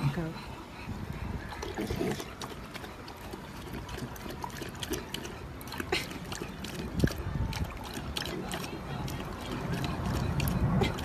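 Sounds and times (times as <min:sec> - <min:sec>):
dog slurping: 0:00.1 - 0:11.0
water running and splashing: 0:01.4 - 0:11.0.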